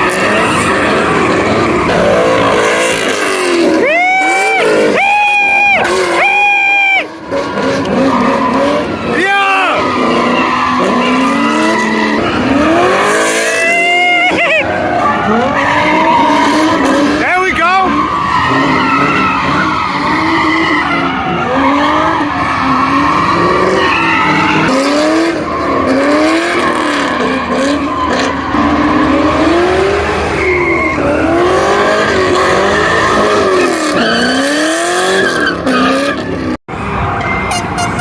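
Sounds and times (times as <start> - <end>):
tyres squealing: 0.0 - 36.4
car engine revving: 0.0 - 37.2.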